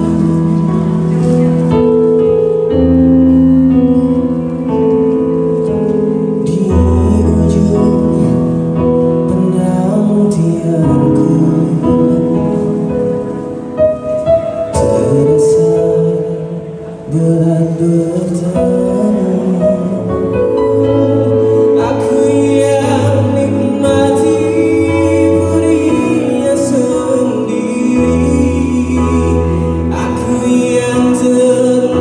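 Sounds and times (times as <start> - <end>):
electronic keyboard ballad: 0.0 - 32.0.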